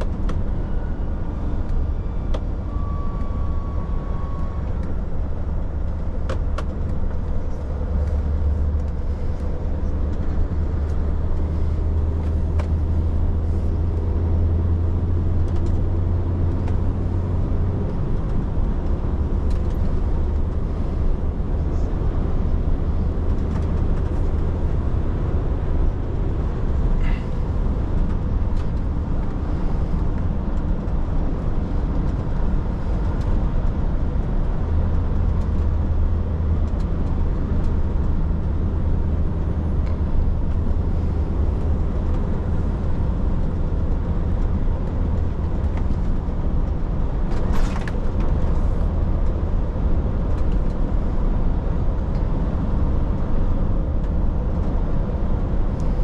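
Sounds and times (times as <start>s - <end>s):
road rumble: 0.0s - 56.0s
truck engine drone: 0.0s - 56.0s.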